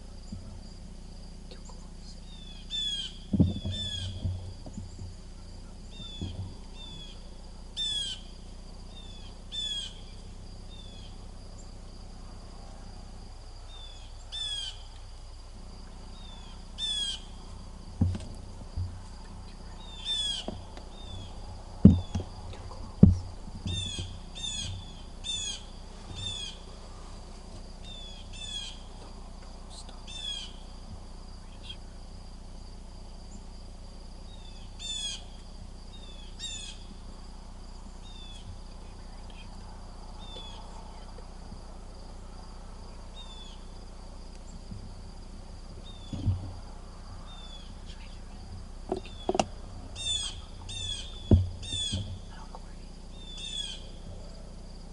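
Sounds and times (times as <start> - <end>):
low thumps: 0.0 - 1.0, 1.7 - 14.4, 15.2 - 34.4, 35.4 - 54.9
high insect drone: 0.0 - 54.9
songbird chirping: 0.0 - 54.9.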